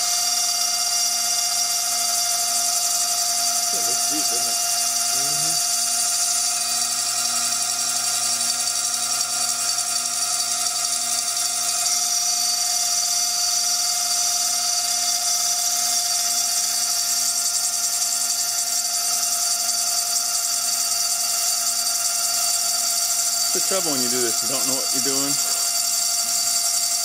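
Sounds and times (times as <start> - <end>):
cutter grinding glass: 0.0 - 27.0
milling machine spindle whining: 0.0 - 27.0.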